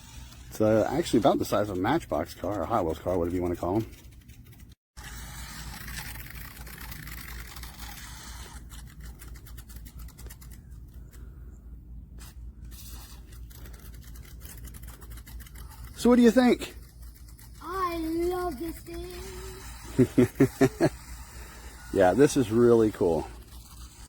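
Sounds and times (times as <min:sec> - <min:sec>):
small electric motor whirring: 0:00.0 - 0:11.3, 0:12.2 - 0:24.0.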